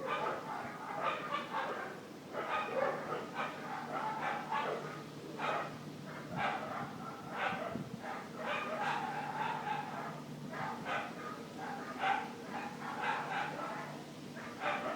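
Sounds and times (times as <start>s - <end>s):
dog barking: 0.0s - 14.9s.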